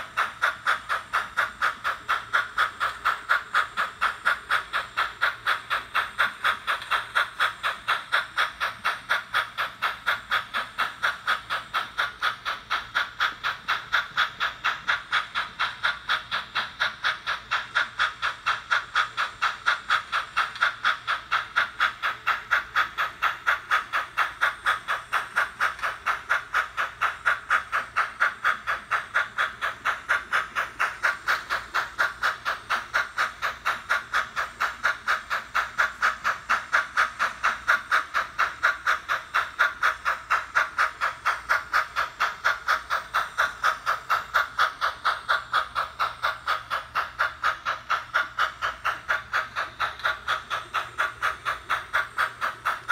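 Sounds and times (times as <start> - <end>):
model train steam chuffs: 0.0 - 52.9.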